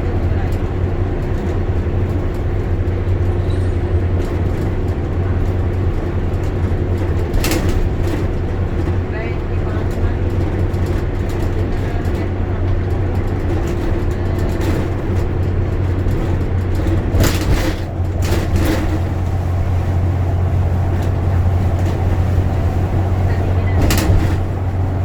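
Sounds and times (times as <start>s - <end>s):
bus engine and road noise: 0.0s - 25.0s.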